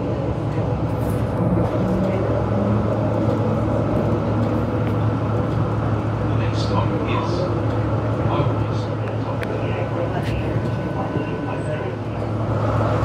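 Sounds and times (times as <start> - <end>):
tram low hum: 0.0 - 13.0.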